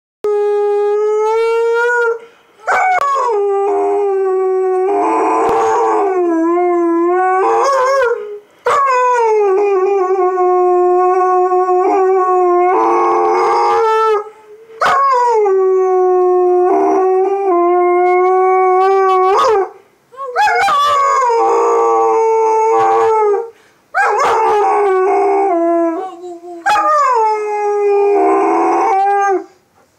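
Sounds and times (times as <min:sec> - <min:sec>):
dog howling: 0:00.4 - 0:29.5.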